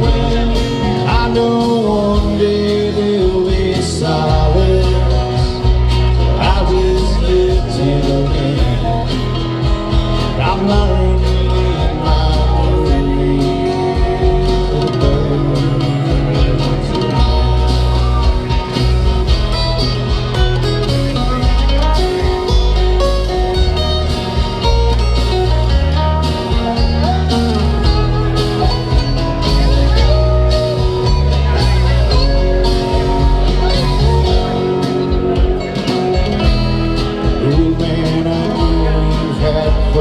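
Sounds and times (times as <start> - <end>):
plucked acoustic guitar: 0.0 - 40.0
steady bass notes: 0.0 - 40.0.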